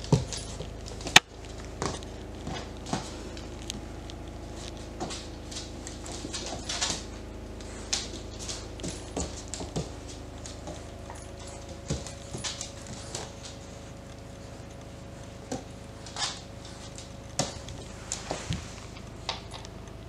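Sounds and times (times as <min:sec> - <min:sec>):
paw scuffs and taps: 0:00.0 - 0:19.8
dog claws clicking on wood floor: 0:00.0 - 0:20.0.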